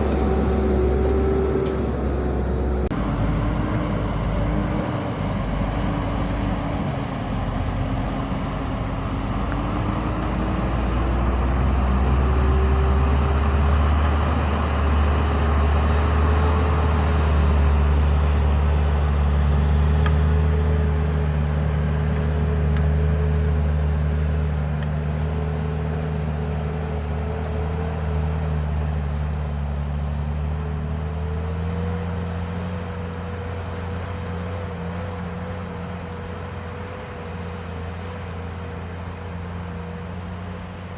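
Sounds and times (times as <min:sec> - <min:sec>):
tractor engine under load: 0:00.0 - 0:40.9.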